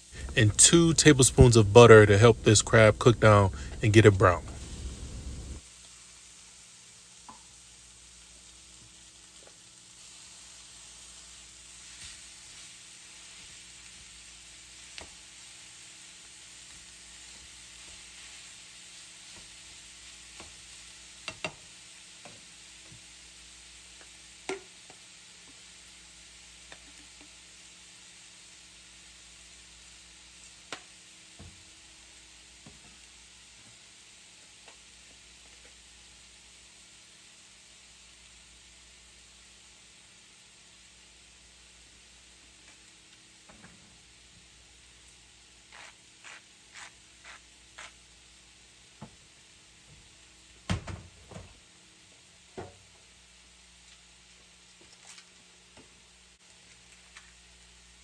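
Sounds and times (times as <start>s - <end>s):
food sizzling in a pan: 0.0s - 50.7s.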